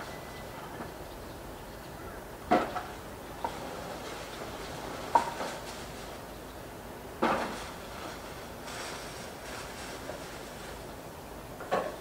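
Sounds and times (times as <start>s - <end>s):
city neighbourhood background noise: 0.0s - 12.0s.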